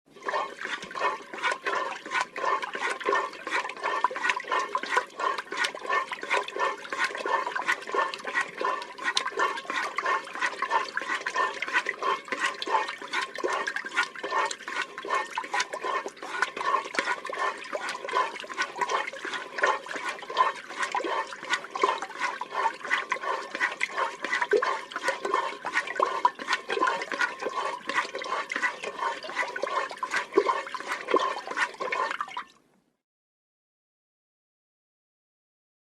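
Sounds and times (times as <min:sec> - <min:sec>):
milk squirting: 0:00.2 - 0:32.2.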